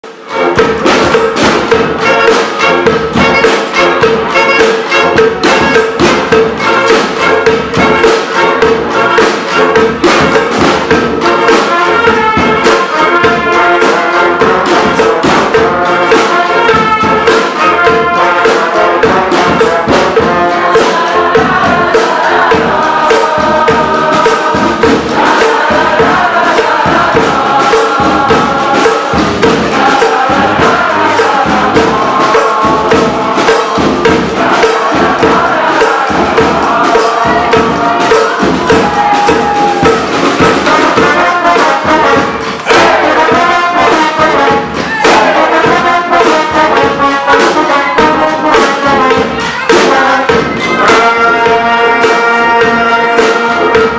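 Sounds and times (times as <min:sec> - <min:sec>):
brass band horns: 0:00.0 - 0:53.9
driving drum beat: 0:00.0 - 0:53.9.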